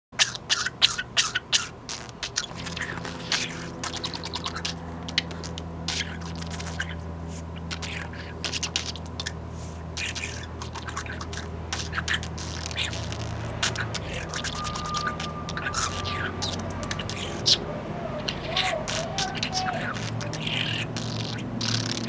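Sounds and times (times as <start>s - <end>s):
budgerigar beak clicks and chatter: 0.2s - 22.0s
steady low hum: 0.2s - 22.0s.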